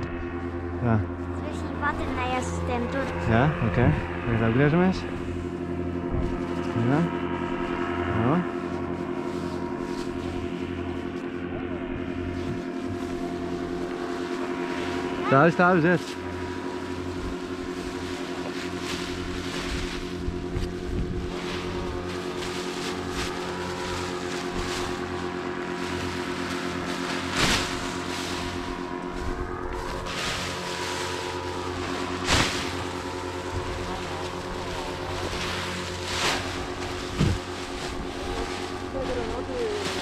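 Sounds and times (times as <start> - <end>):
steady motor hum: 0.0 - 40.0.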